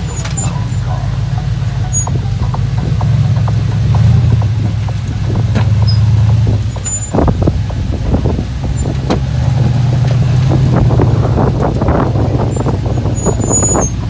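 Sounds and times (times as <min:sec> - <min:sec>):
engine running at low revs: 0:00.0 - 0:14.0
knocks and clunks: 0:00.0 - 0:14.0.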